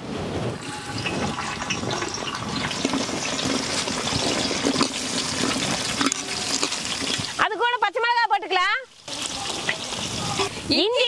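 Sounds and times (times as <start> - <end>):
onions sizzling in hot oil: 0.6 - 11.0.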